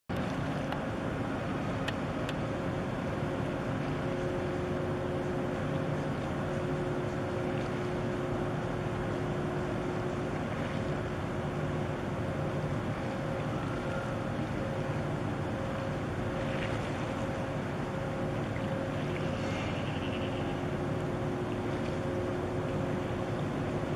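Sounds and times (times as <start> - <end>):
ship engine drone: 0.1 - 23.9.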